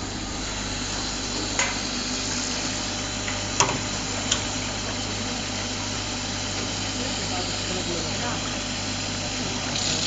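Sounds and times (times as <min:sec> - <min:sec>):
extrusion machinery humming: 0:00.0 - 0:10.0.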